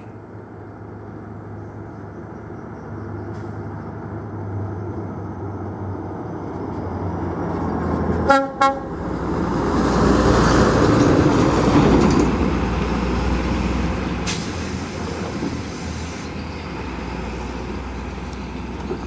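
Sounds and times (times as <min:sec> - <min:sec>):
truck engine and tyre noise: 0:00.0 - 0:19.0.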